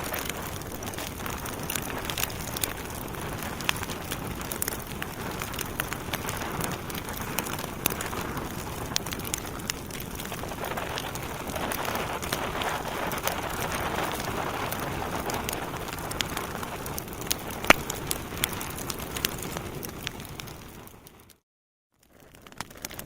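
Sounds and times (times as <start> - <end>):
logs burning in a fireplace: 0.0 - 21.4, 22.0 - 23.0.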